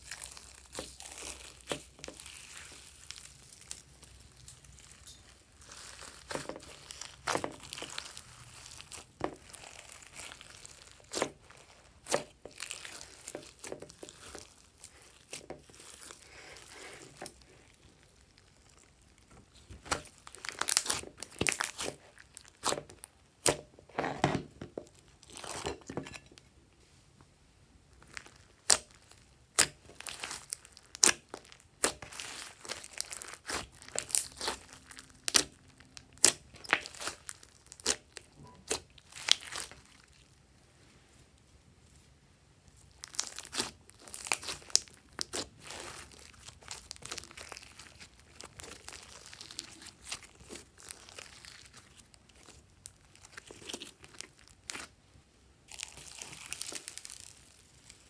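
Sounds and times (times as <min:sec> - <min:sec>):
slime crackling and popping: 0:00.0 - 0:24.2, 0:27.9 - 0:40.4, 0:42.7 - 0:55.0, 0:55.7 - 0:58.0.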